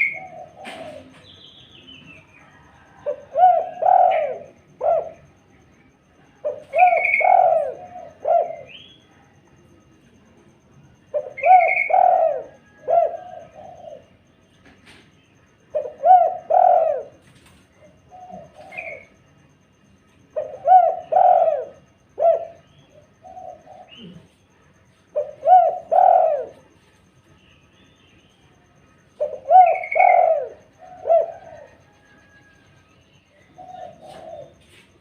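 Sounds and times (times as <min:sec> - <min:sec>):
dove cooing: 0:00.0 - 0:09.9, 0:10.7 - 0:27.2, 0:28.5 - 0:35.0.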